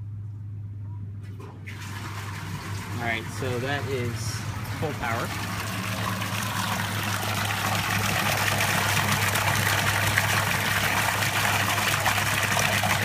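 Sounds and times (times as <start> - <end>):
low pump hum: 0.0 - 13.0
water pouring into a tub: 1.6 - 13.0.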